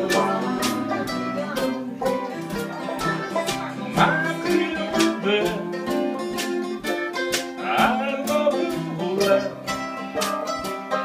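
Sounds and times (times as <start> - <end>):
bluegrass string band playing: 0.0 - 11.0.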